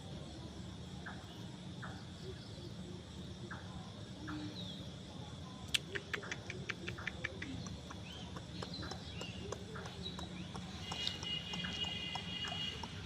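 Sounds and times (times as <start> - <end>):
faint chirping: 0.4 - 13.0.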